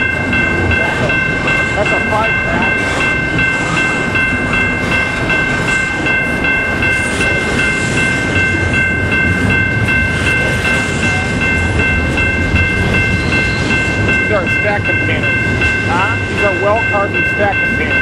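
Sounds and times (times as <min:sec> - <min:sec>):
freight train wheels rumbling: 0:00.0 - 0:18.0
high ringing tone: 0:00.0 - 0:18.0.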